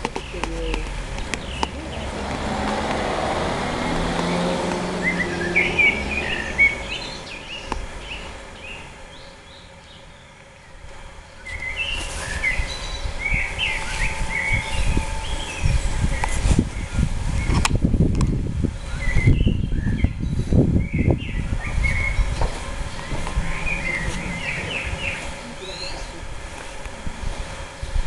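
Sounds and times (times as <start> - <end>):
small birds chirping: 0.0 - 2.4, 3.7 - 17.7, 18.8 - 26.2
low rumble: 0.0 - 9.8, 10.7 - 28.0.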